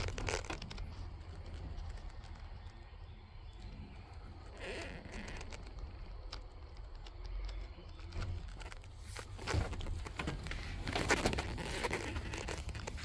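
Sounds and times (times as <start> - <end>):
clicks and rustling: 0.0 - 13.0.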